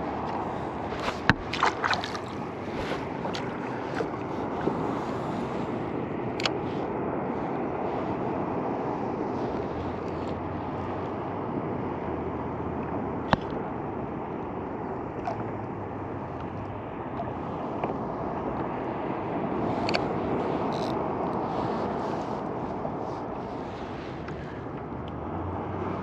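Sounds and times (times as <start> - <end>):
wind and water rushing: 0.0 - 26.0.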